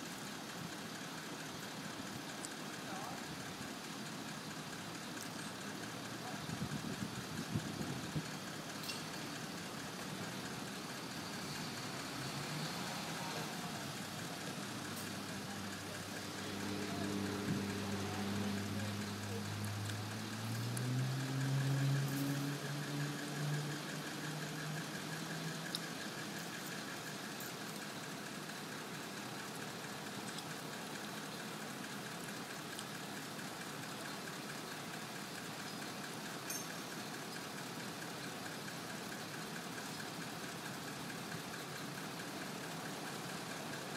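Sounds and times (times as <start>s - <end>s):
truck engine idling: 0.0s - 43.9s.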